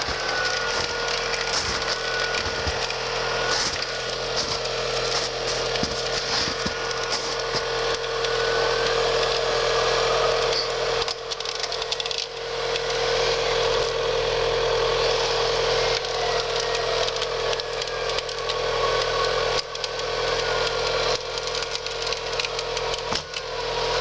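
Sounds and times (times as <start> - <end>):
continuous crackling noise: 0.0 - 13.9, 15.0 - 24.0
vehicle winch whining under load: 0.0 - 24.0.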